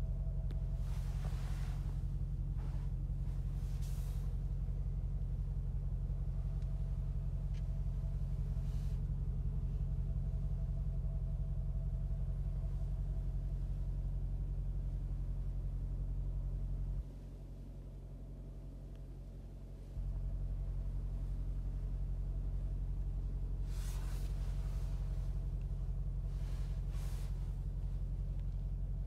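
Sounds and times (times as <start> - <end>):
car engine idling low rumble: 0.0 - 29.0.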